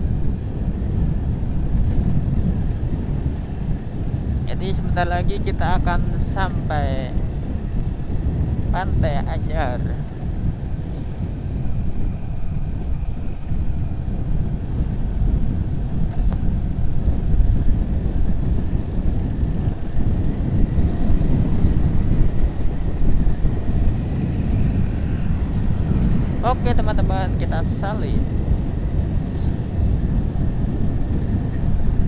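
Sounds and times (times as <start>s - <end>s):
motorcycle engine at road speed: 0.0s - 32.0s
road noise: 0.0s - 32.0s
wind rumble on microphone: 0.0s - 32.0s.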